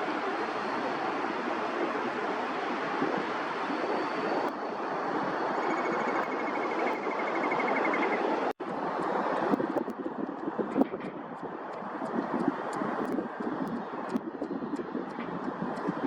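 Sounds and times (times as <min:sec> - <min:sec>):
wind: 0:00.0 - 0:16.0.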